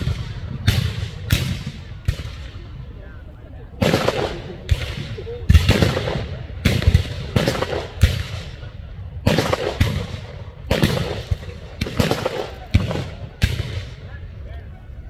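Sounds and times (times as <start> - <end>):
black-powder gunshots: 0.0 - 2.7, 3.8 - 14.1.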